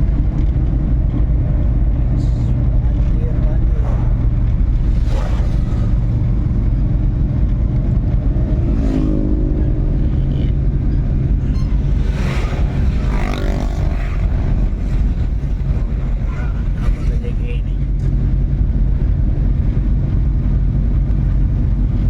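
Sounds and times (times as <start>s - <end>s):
engine running with low rumble: 0.0s - 22.0s.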